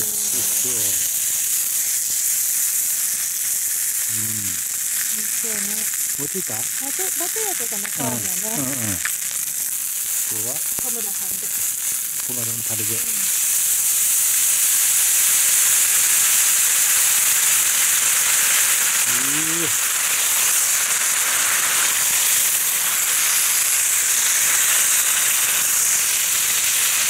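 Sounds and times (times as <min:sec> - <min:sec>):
chicken sizzling in a hot pan: 0:00.0 - 0:27.0.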